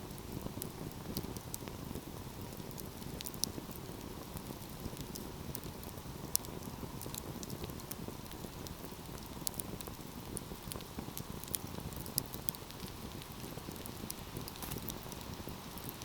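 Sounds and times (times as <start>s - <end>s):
fireplace fire crackling and popping: 0.0s - 16.0s.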